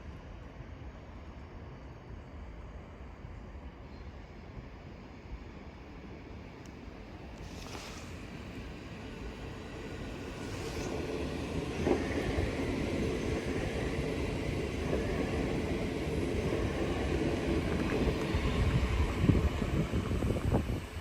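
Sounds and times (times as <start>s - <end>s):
train rumbling on tracks: 0.0s - 21.0s.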